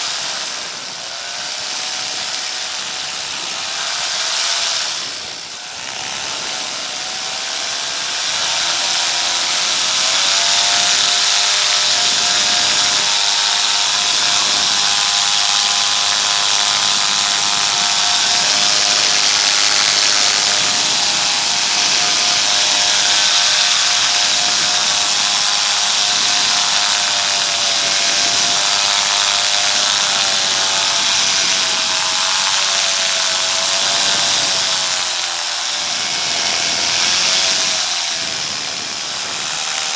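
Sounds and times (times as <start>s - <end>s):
paramotor engine running: 0.0s - 39.9s
rushing wind: 0.0s - 39.9s.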